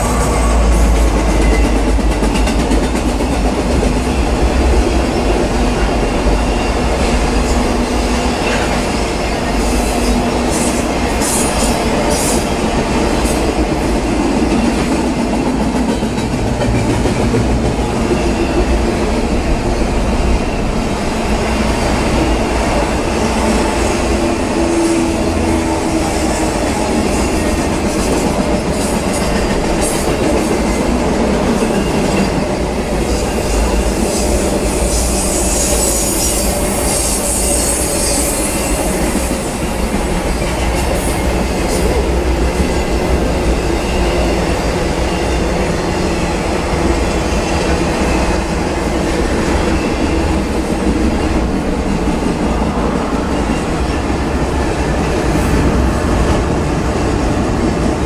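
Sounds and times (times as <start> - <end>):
train wheels rumbling and clattering: 0.0 - 58.0.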